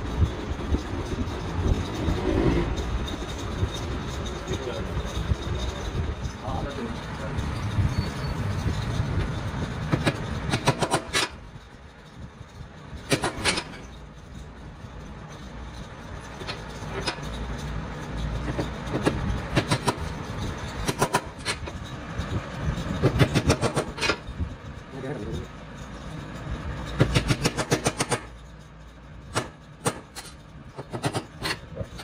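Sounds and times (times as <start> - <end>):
steady low rumble: 0.0 - 27.6.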